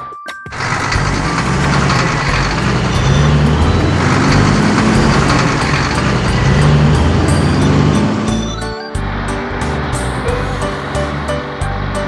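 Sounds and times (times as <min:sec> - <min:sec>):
cartoon truck engine: 0:00.5 - 0:12.0.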